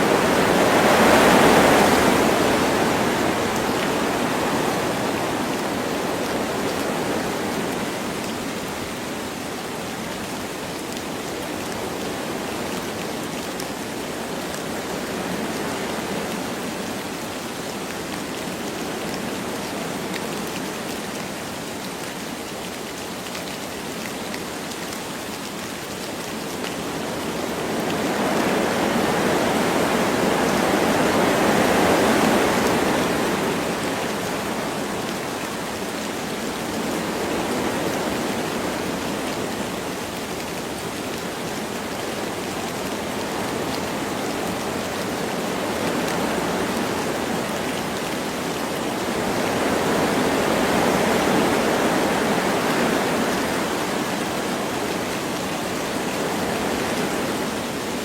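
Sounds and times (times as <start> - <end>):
light rain falling: 0.0 - 58.0
wind through trees: 0.0 - 58.0.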